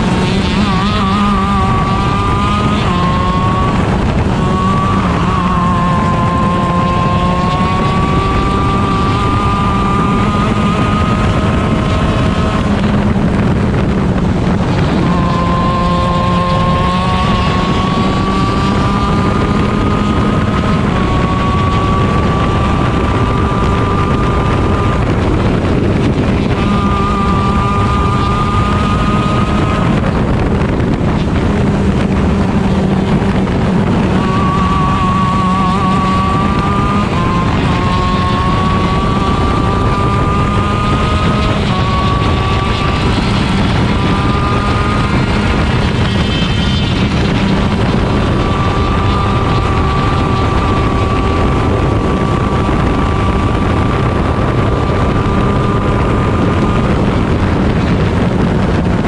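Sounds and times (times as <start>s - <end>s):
kart engine at high revs: 0.0s - 59.0s
wind on microphone: 0.0s - 59.0s.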